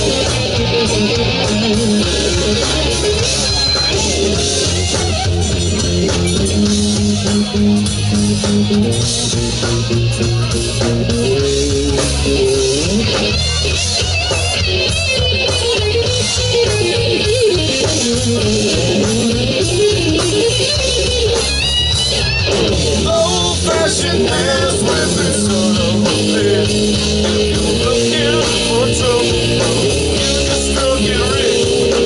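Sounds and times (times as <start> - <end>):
bending electric guitar line: 0.0 - 32.0
rock band playing: 0.0 - 32.0.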